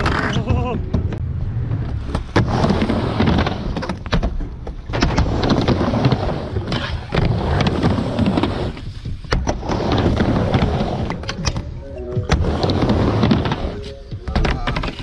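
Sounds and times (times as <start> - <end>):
skateboard wheels rolling: 0.0 - 15.0.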